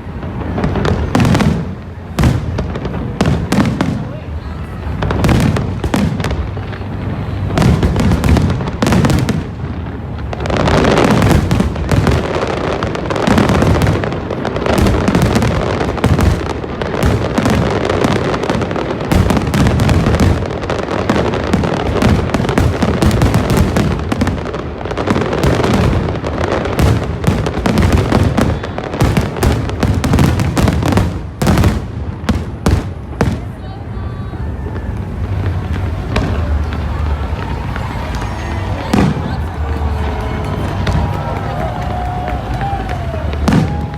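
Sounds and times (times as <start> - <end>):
fireworks bangs and booms: 0.0 - 43.9
fireworks crackling: 0.0 - 43.9.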